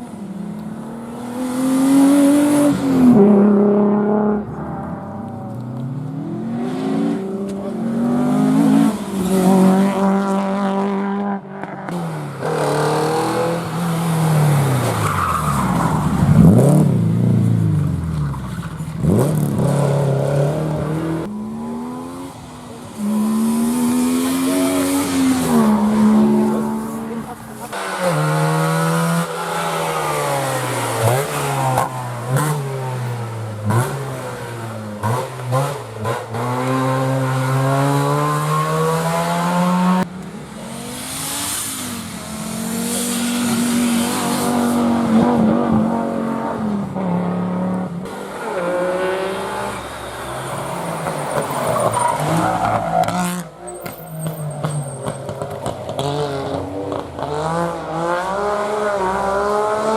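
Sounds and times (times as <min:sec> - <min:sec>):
rally car engines revving hard: 0:00.0 - 0:17.7, 0:18.6 - 0:53.9, 0:54.6 - 0:59.9.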